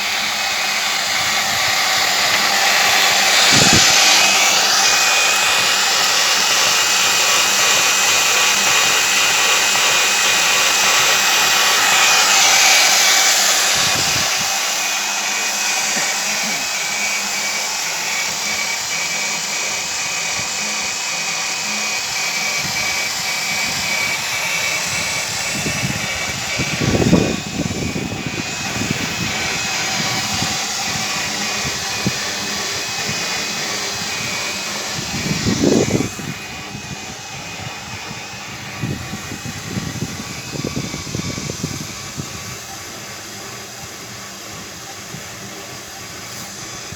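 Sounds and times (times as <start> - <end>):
boring machine whirring: 0.0 - 46.9.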